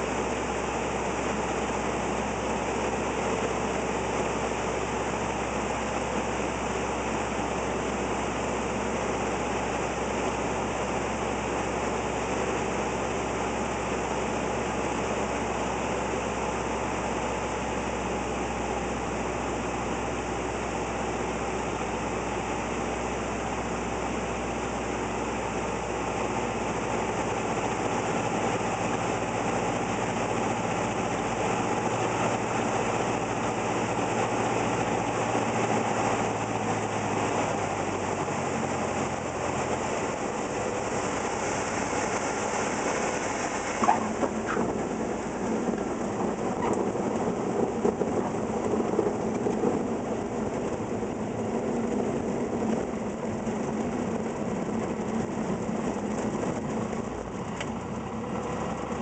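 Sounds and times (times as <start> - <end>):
aircraft engine droning in cockpit: 0.0 - 59.0.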